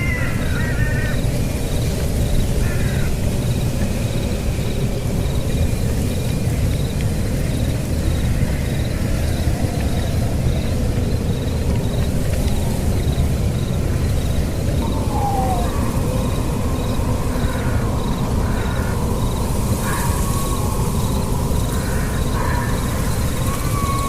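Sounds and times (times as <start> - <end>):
faint high insect chirp: 0.0 - 24.0
rain-like hiss: 0.0 - 24.0.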